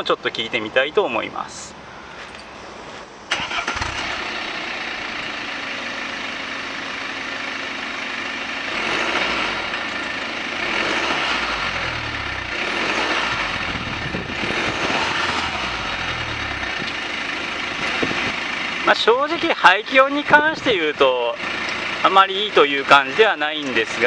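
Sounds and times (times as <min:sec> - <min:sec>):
diesel car engine idling and revving: 0:03.3 - 0:24.0.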